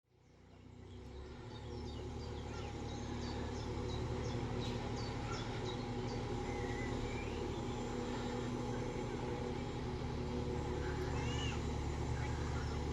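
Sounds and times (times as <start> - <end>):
boat engine humming: 0.1 - 12.9
songbird chirping: 0.1 - 12.9.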